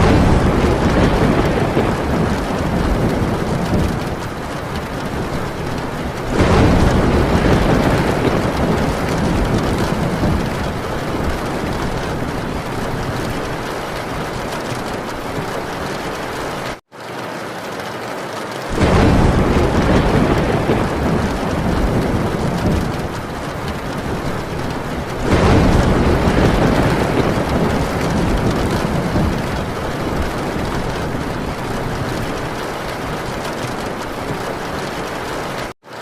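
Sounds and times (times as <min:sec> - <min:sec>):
low rolls of thunder: 0:00.0 - 0:16.8, 0:18.7 - 0:35.7
heavy rain on a tin roof: 0:00.0 - 0:36.0.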